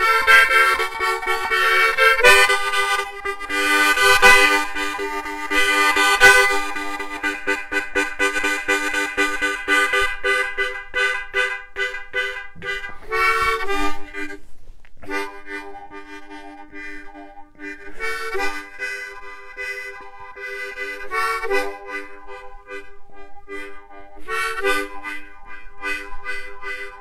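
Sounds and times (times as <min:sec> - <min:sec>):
harmonica playing chords: 0:00.0 - 0:27.0.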